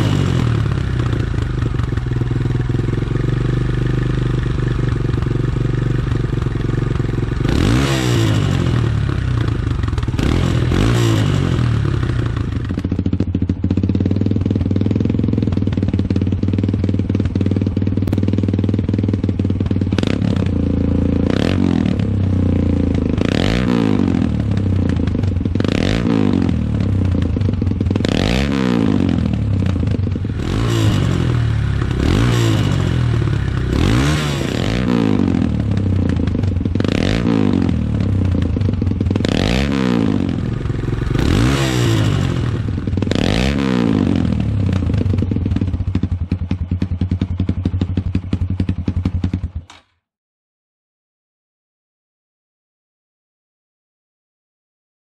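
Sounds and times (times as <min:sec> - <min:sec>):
motorcycle engine idling and revving: 0:00.0 - 0:50.1.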